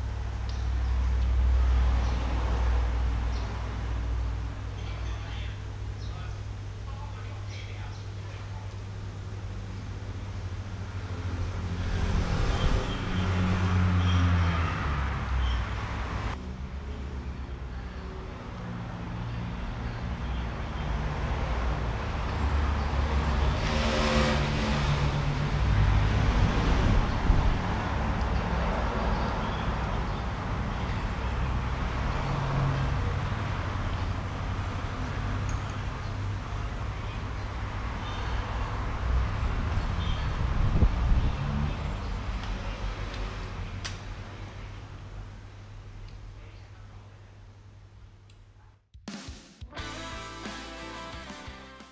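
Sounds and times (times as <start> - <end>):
road traffic rumble: 0.0 - 48.5, 49.8 - 51.8.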